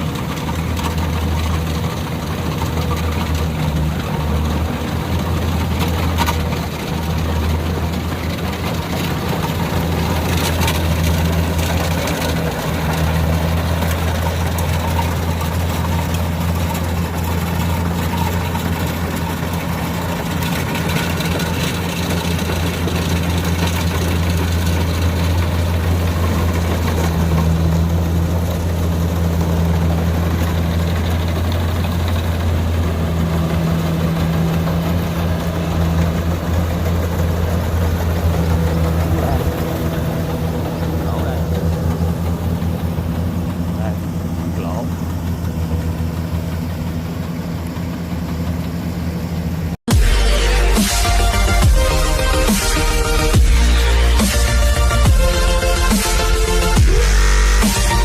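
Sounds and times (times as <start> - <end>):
mechanical clatter: 0.0 - 50.1
diesel engine running: 0.0 - 58.0.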